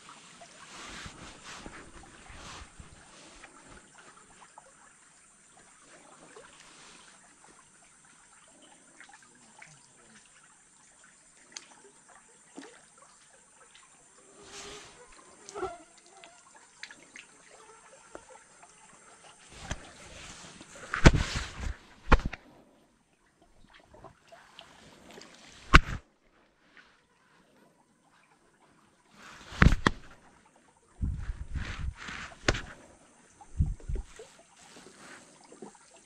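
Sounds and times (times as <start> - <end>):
water trickling and dripping: 0.0 - 36.0.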